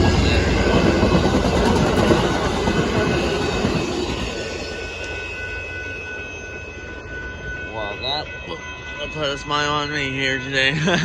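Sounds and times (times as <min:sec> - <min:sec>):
faint high whine from rails: 0:00.0 - 0:11.0
train wheels rumbling on rails: 0:00.0 - 0:11.0.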